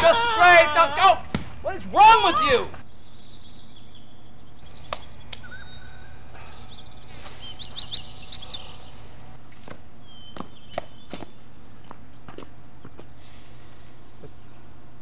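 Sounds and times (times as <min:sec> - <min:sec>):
small birds chirping: 0:00.0 - 0:14.7
low background hum: 0:00.0 - 0:15.0.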